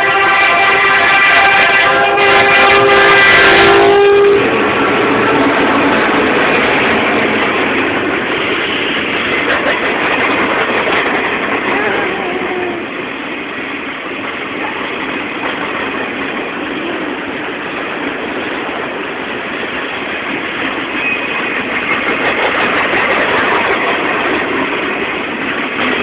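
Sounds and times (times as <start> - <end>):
diesel locomotives running: 0.0 - 26.0.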